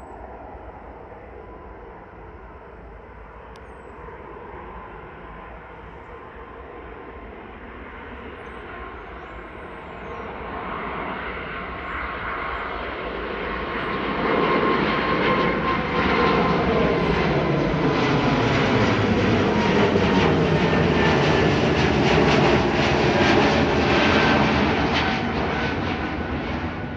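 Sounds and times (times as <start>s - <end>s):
jet engine whine: 0.0s - 26.9s
jet engines at takeoff: 0.0s - 26.9s.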